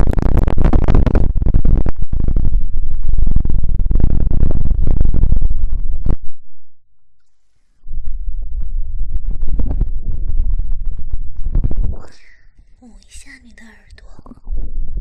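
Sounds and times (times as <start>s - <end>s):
crackling against microphone: 0.0s - 6.4s, 7.2s - 15.0s.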